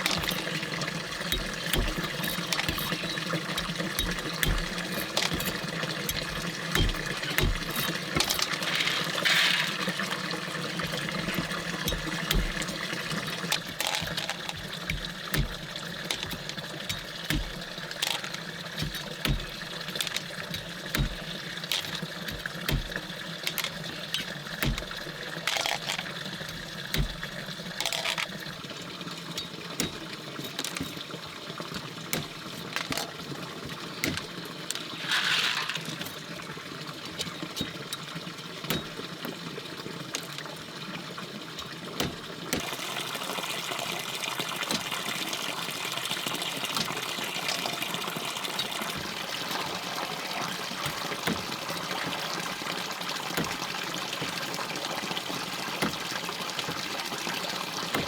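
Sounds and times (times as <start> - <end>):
small clicks and knocks: 0.0 - 42.8, 44.6 - 45.4, 48.5 - 52.6, 53.3 - 58.0
water running and splashing: 0.0 - 58.0.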